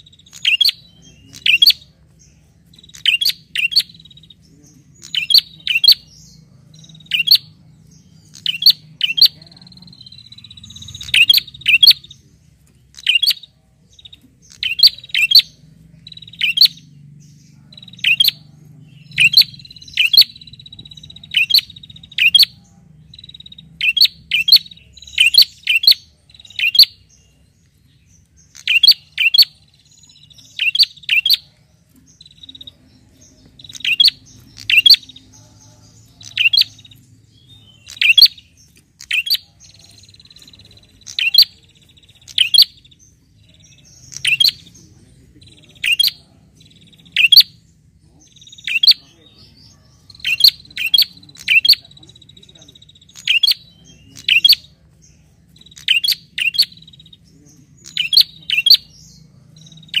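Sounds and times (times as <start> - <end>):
bird chirping sharply: 0.0 - 12.2, 12.8 - 31.5, 32.2 - 54.8, 55.5 - 60.0.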